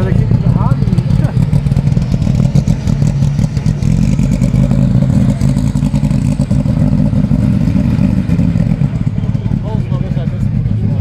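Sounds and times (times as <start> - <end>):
race car engine idling: 0.0 - 11.0.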